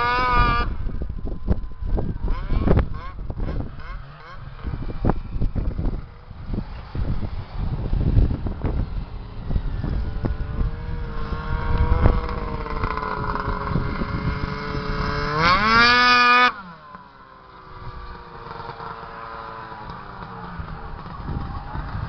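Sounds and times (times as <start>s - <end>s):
wind rumble on microphone: 0.0s - 16.8s, 17.7s - 22.0s
snowmobile engine revving: 0.0s - 22.0s.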